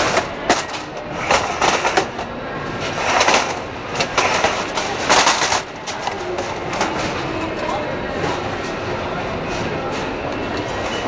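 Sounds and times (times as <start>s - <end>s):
factory floor clatter: 0.0s - 11.0s.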